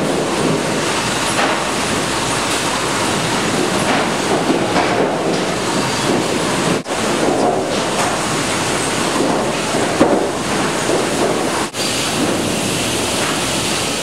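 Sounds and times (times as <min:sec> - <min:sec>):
sawmill machinery noise: 0:00.0 - 0:14.0.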